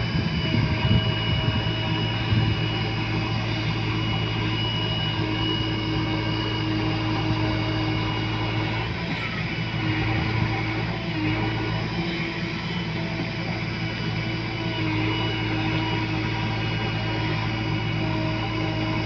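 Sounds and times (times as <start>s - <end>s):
heavy diesel engine running: 0.0s - 19.0s
thin high whine: 0.0s - 19.0s.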